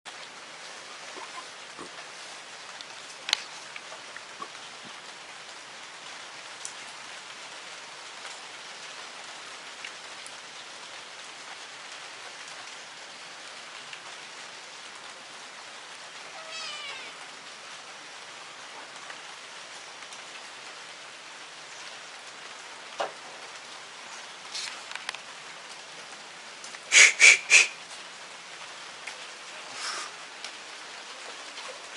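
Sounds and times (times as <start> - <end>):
steady rain falling: 0.1 - 31.9.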